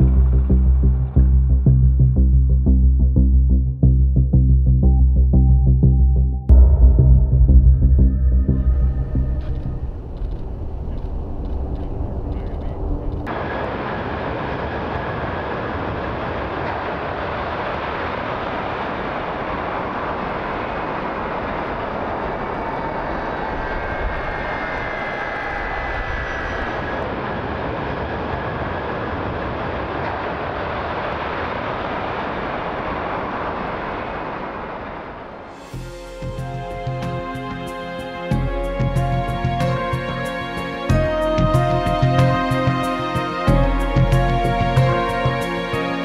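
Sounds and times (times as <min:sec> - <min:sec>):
aircraft engine rushing: 0:06.5 - 0:46.0.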